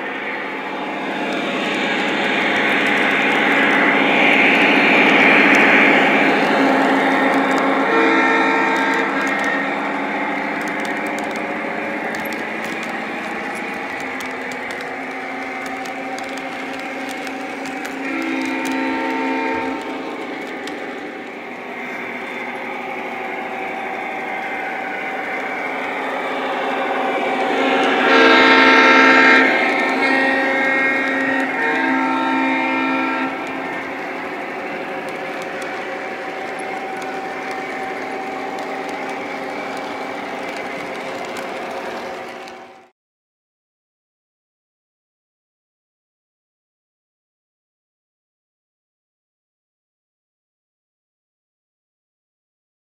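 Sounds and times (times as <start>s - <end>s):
model train motor whining hum: 0.0s - 42.9s
wheels clicking on rails: 0.0s - 42.9s.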